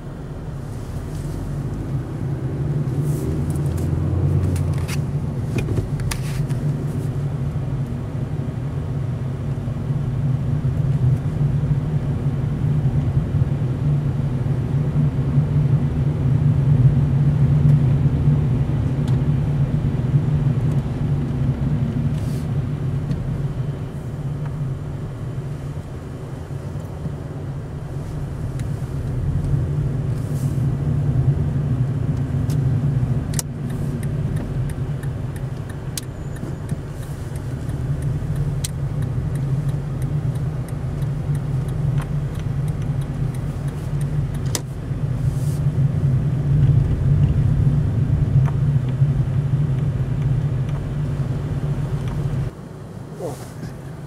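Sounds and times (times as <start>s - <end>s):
car cabin engine and tyre rumble: 0.0s - 54.0s.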